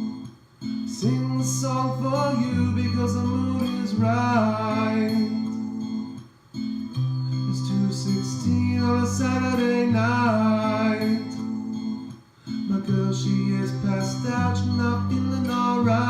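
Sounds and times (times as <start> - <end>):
pitch-bending melodic line: 0.0 - 12.1, 12.7 - 16.0
reggae acoustic guitar: 0.0 - 16.0.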